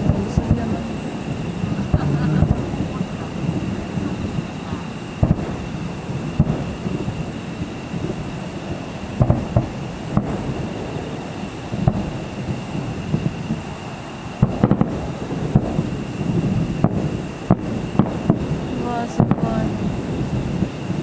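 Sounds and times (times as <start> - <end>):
low rumble: 0.0 - 20.9
distant fireworks booming: 0.0 - 21.0.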